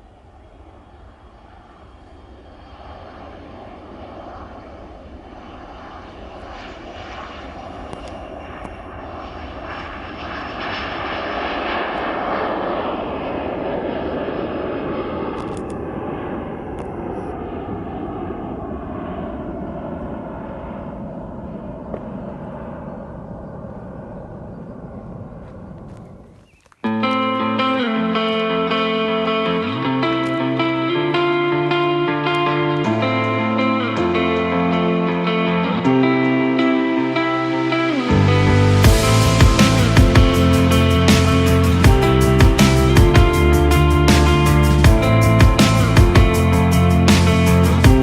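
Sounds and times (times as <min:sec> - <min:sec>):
airliner passing by: 0:00.0 - 0:48.0.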